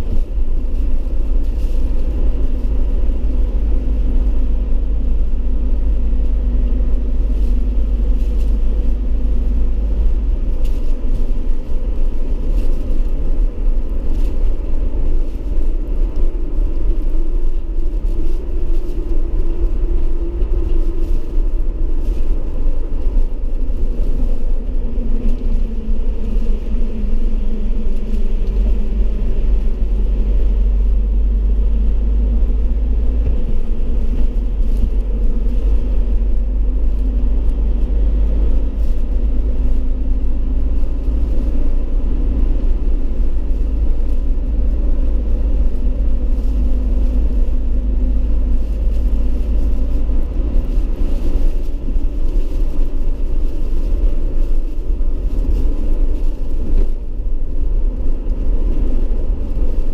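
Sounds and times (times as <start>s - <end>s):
vehicle engine and road rumble: 0.0s - 59.9s.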